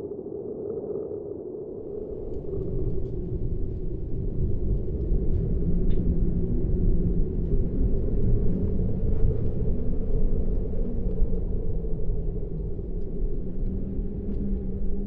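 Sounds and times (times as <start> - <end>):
deep low rumble: 1.7 - 15.0.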